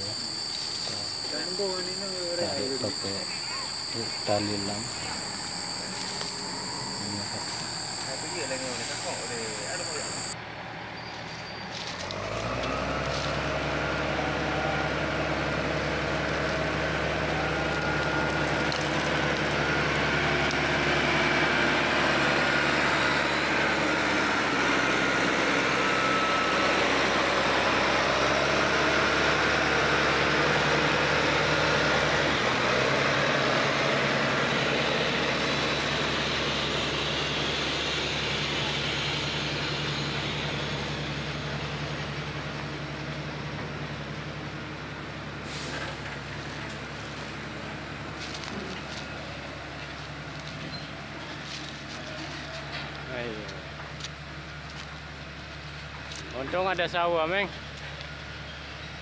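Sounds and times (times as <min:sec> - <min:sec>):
heavy diesel engines under load: 0:00.0 - 0:59.0
high engine whine: 0:00.0 - 0:59.0.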